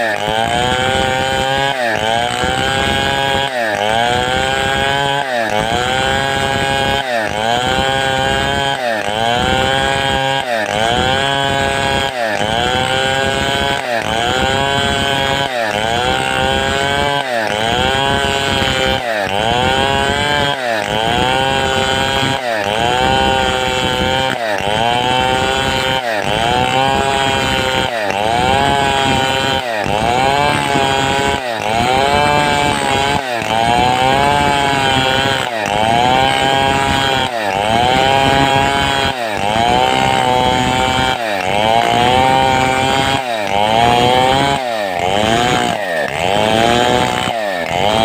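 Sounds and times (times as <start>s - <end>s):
chainsaw cutting wood: 0.0s - 48.0s.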